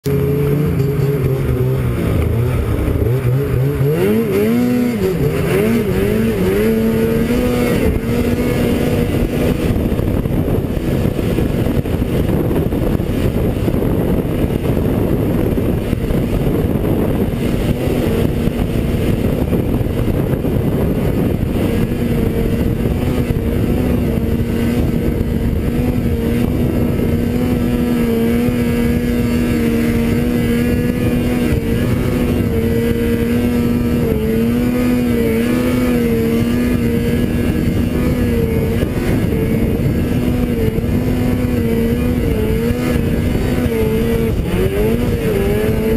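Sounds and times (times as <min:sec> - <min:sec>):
snowmobile engine revving: 0:00.0 - 0:45.9.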